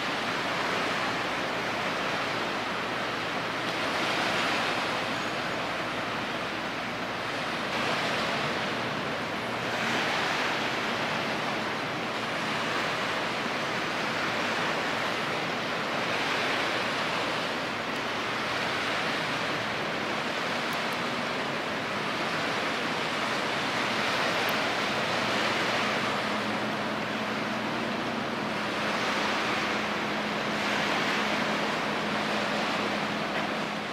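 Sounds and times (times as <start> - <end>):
sea waves washing against shore: 0.0 - 33.9.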